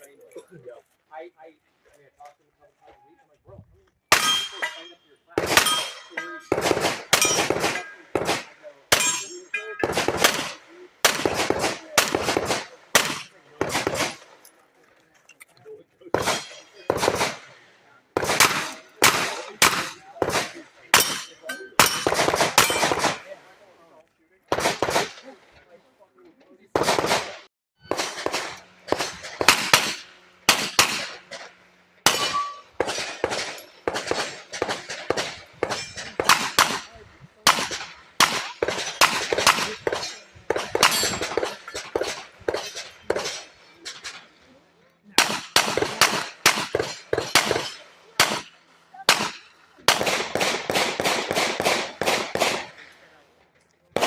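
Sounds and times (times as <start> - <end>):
gunshots: 4.1 - 14.4, 16.0 - 23.7, 24.5 - 25.5, 26.7 - 44.3, 45.1 - 53.1.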